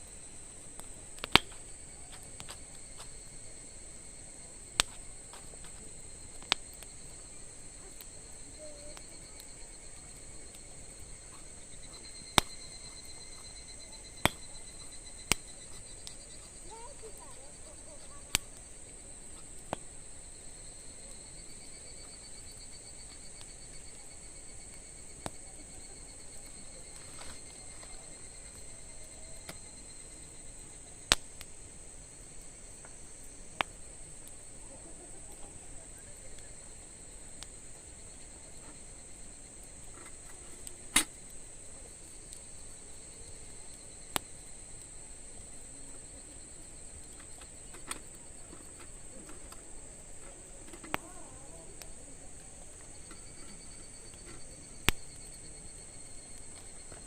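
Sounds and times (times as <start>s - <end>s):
insects chirring: 0.0s - 57.0s
wood fire popping: 0.0s - 57.0s.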